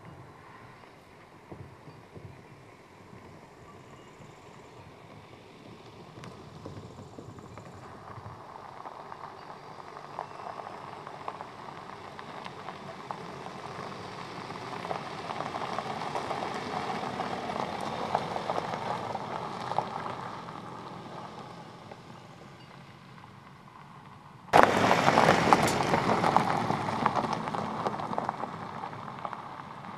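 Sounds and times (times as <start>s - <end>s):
car tyres crunching over gravel: 3.0s - 29.9s.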